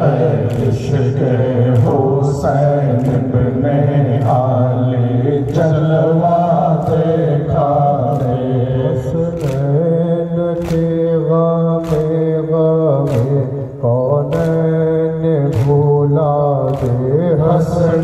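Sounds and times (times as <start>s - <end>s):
man singing into a microphone: 0.0s - 18.0s
men chanting in unison: 0.0s - 18.0s.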